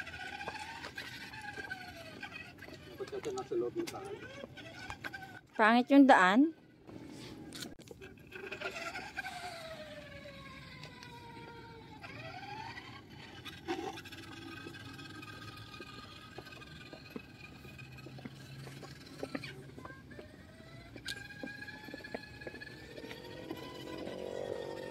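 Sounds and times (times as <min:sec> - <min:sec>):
rc car motor whining: 0:00.0 - 0:24.9.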